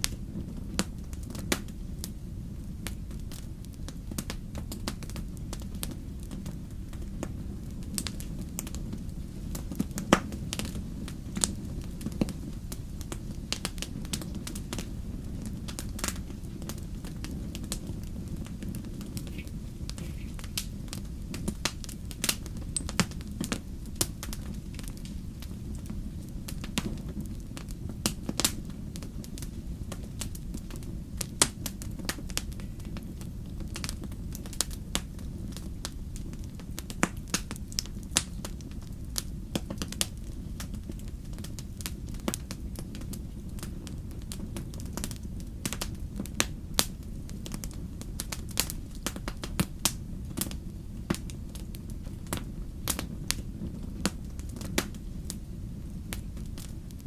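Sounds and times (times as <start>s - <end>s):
fire crackles and pops: 0.0s - 57.0s
wood fire rumble: 0.0s - 57.0s.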